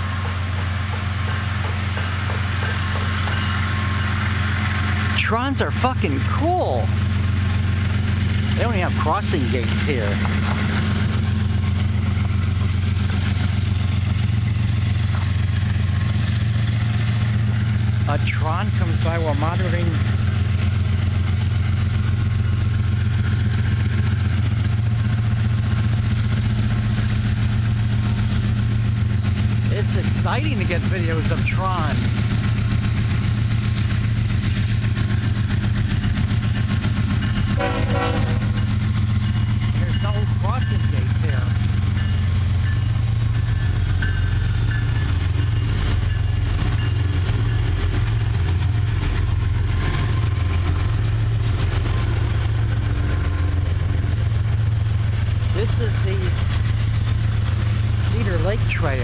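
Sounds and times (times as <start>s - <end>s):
locomotive engine drone: 0.0s - 59.0s
train rumble: 0.0s - 59.0s.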